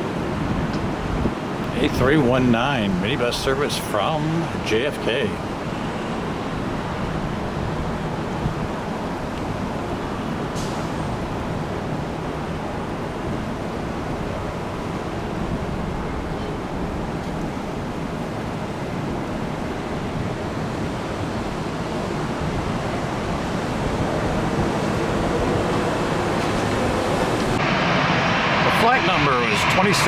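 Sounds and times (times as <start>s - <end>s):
wind on microphone: 0.0s - 3.2s, 5.4s - 30.0s
jet engines roaring: 0.0s - 30.0s.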